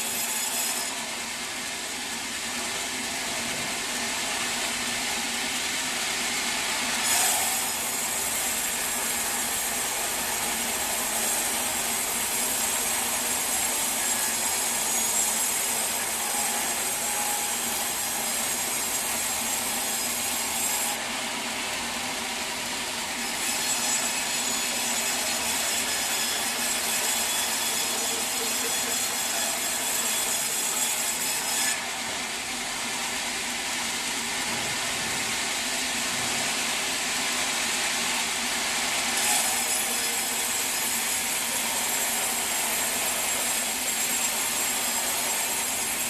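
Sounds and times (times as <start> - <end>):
sawmill machine running: 0.0 - 46.0.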